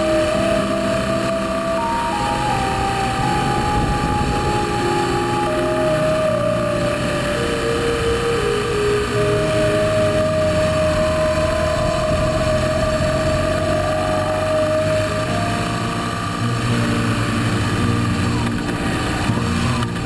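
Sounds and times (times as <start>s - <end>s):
motorcycle engine running: 0.0s - 20.0s
tyre and road noise: 0.0s - 20.0s.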